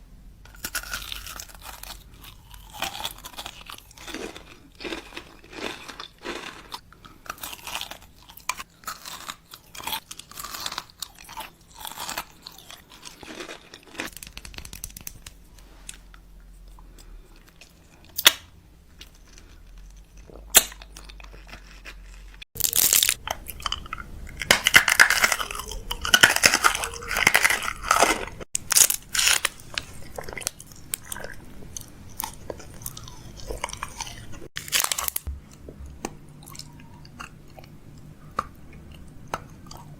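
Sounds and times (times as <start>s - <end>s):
chewing crisp food: 0.5s - 18.2s, 18.9s - 39.9s.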